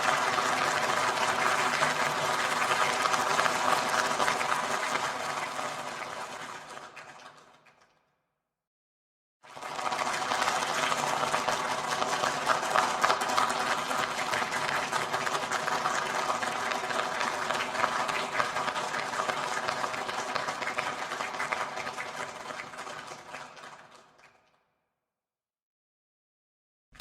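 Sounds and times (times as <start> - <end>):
crowd clapping: 0.0 - 7.8, 9.6 - 24.4.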